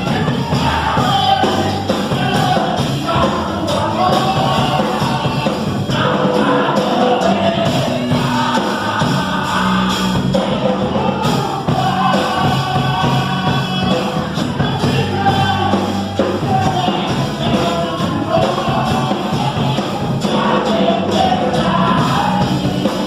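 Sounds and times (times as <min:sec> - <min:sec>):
sustained bass notes: 0:00.0 - 0:23.0
voices singing a hymn: 0:00.0 - 0:23.0.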